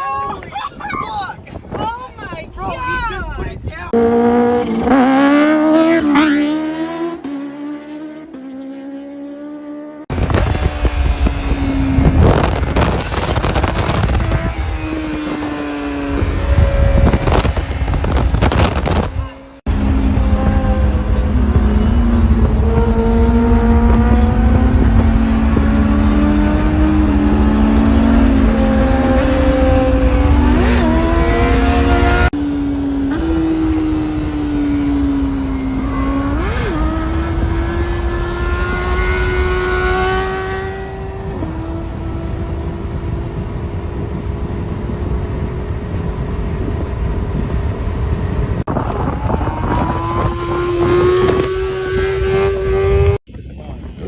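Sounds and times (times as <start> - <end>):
motorbikes passing loudly: 0.0 - 53.2
superbike engines revving: 0.0 - 53.2.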